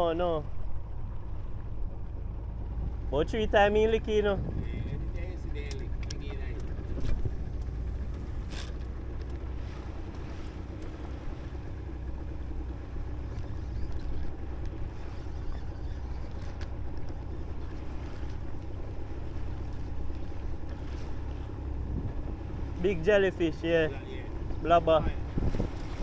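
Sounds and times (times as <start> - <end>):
boat engine low rumble: 0.0 - 26.0
water washing around hull: 0.0 - 26.0
wind buffeting microphone: 0.5 - 26.0.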